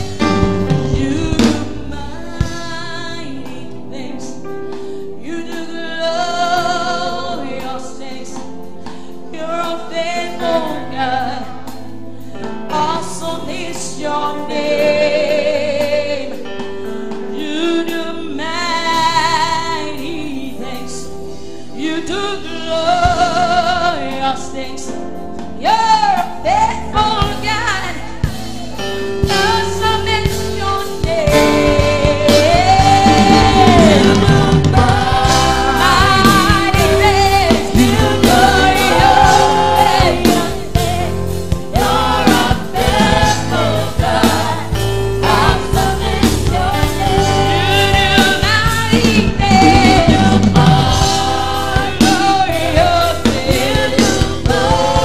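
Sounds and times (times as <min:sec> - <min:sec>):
women singing gospel: 0:00.0 - 0:04.5, 0:05.2 - 0:55.0.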